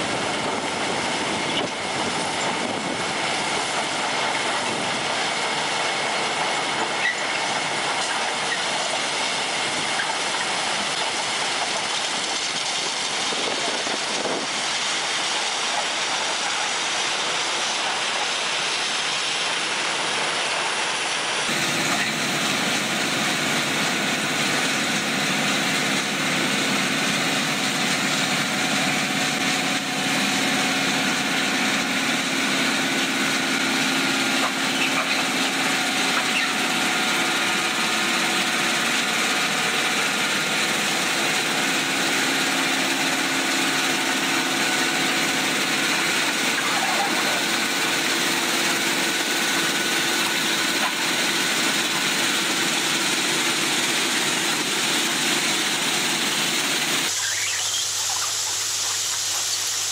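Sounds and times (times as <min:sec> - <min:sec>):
track machine digging ballast: 0:00.0 - 0:19.6, 0:21.4 - 0:59.9.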